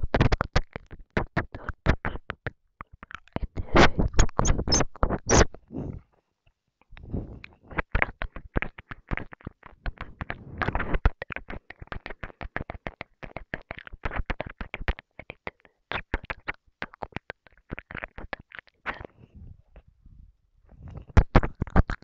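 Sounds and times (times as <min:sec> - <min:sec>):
wet mouth clicks and smacks: 0:00.0 - 0:05.6, 0:06.8 - 0:19.2, 0:20.9 - 0:22.0.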